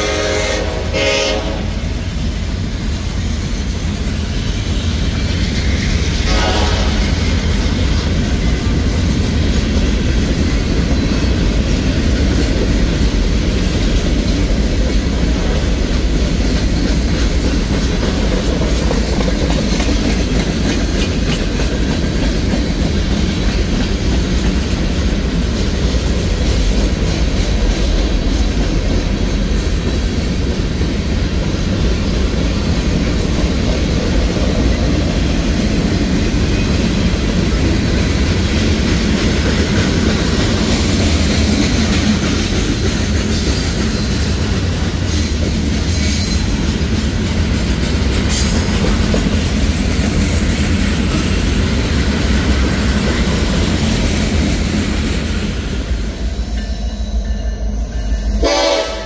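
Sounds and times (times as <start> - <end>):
steel wheels clattering on rails: 2.1 - 58.5.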